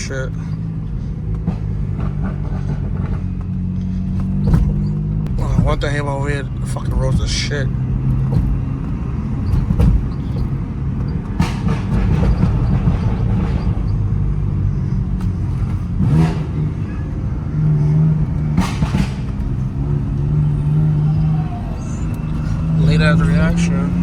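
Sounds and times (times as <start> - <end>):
car engine and road rumble: 0.0 - 24.0
knocks and rattles over bumps: 0.0 - 24.0.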